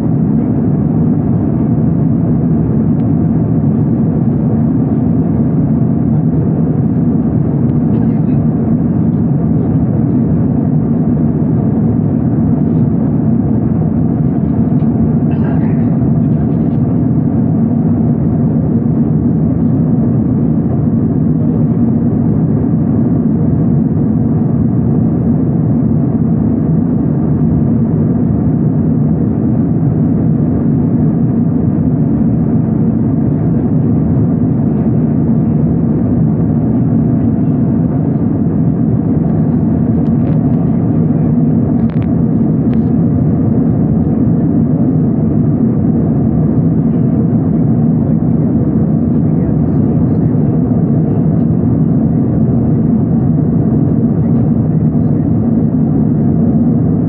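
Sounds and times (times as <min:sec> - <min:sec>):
faint steady hum: 0:00.0 - 0:57.0
jet airliner cabin drone: 0:00.0 - 0:57.0.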